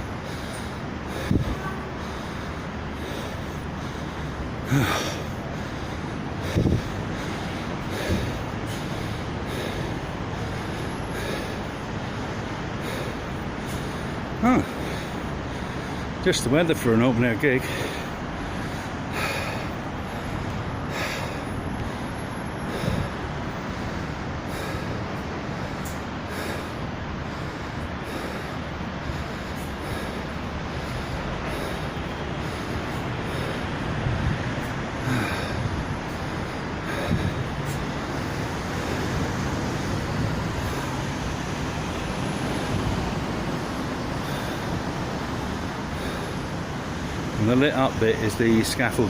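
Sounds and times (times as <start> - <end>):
person breathing heavily: 0.0 - 16.3, 17.0 - 48.8
low outdoor rumble: 0.0 - 49.0
road traffic noise: 0.0 - 49.0.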